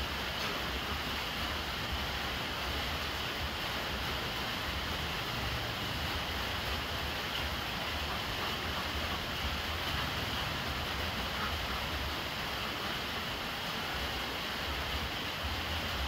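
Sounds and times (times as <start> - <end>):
rainwater stream splashing: 0.0 - 16.0
steady rain falling: 0.0 - 16.0.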